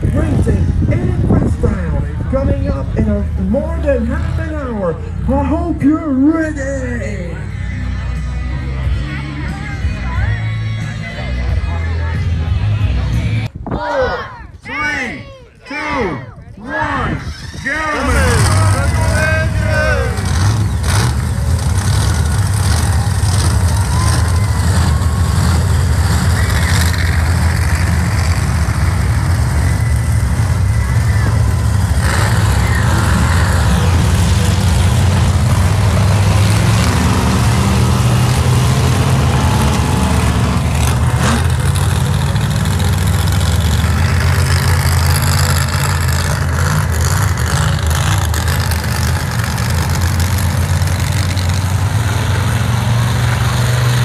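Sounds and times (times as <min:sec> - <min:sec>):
monster truck engines rumbling: 0:00.0 - 0:54.0.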